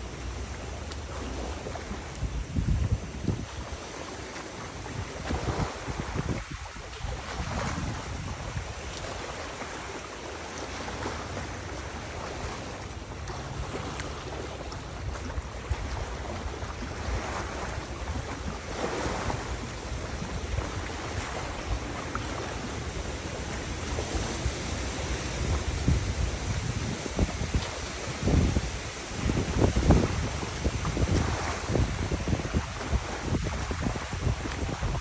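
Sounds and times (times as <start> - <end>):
wind gusting over microphone: 0.0 - 35.0.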